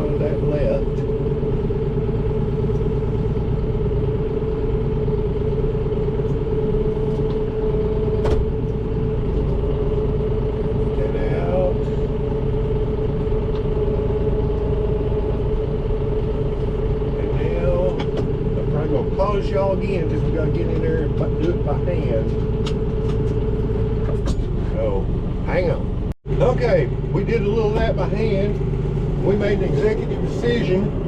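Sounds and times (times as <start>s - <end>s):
engine whine: 0.0s - 31.0s
tractor engine running: 0.0s - 31.0s.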